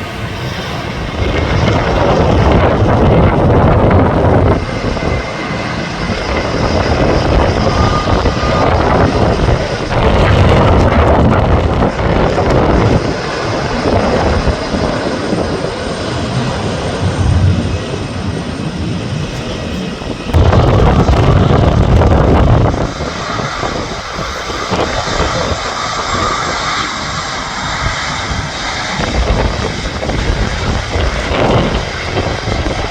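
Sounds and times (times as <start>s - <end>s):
jet engines running: 0.0s - 32.9s
wind buffeting microphone: 0.0s - 32.9s.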